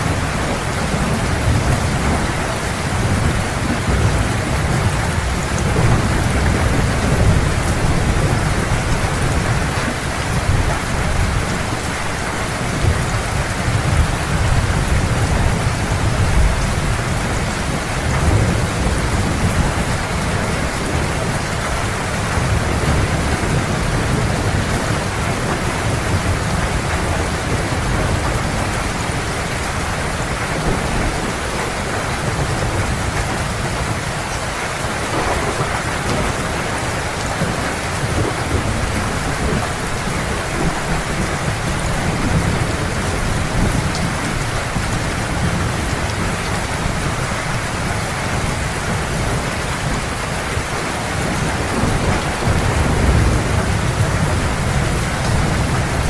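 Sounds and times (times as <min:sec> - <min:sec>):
distant thunder rumble: 0:00.0 - 0:47.2, 0:47.8 - 0:56.0
heavy rain: 0:00.0 - 0:56.0.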